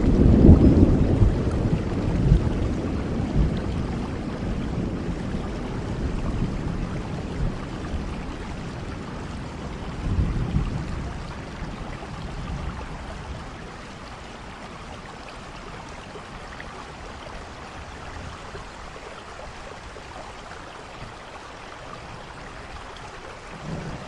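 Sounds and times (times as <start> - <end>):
steady rainfall: 0.0 - 24.0.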